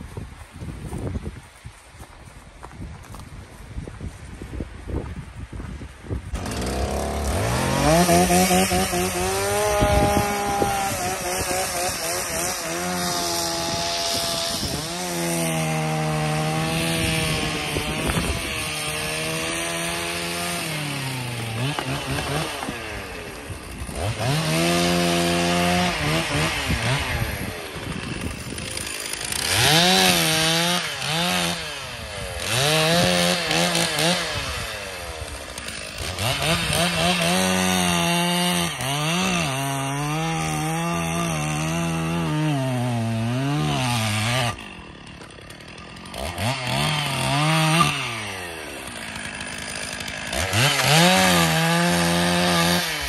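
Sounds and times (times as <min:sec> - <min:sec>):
small engine revving: 0:06.3 - 0:53.0.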